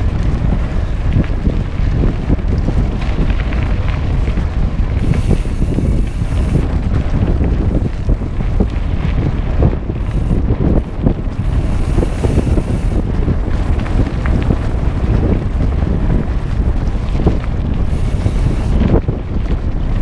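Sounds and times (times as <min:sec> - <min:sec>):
bike tyres knocking and rattling: 0:00.0 - 0:20.0
steady low rumble: 0:00.0 - 0:20.0
wind buffeting microphone: 0:00.0 - 0:20.0.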